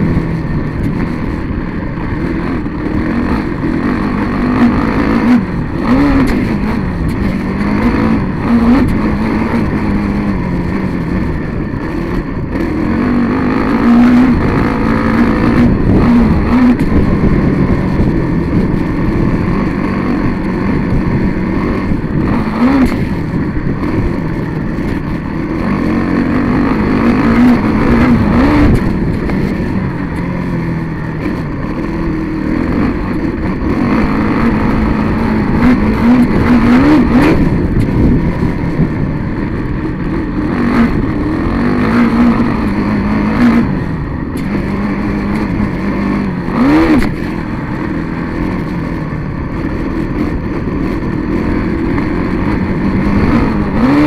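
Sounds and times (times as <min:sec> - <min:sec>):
motorcycle engine revving: 0:00.0 - 0:54.0
wind rushing on microphone: 0:00.0 - 0:54.0.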